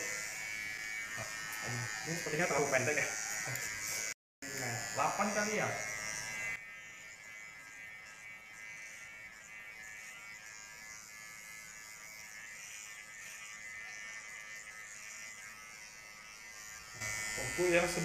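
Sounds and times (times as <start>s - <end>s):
hair clipper buzzing: 0.0s - 18.0s.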